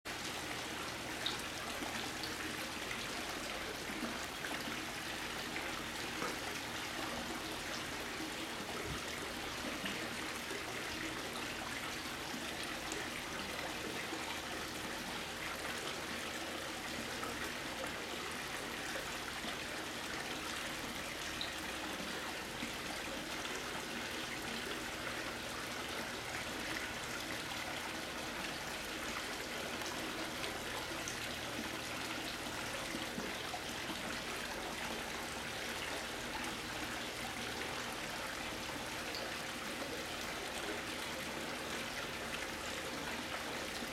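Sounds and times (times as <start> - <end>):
pool water trickling and lapping: 0.0 - 43.9.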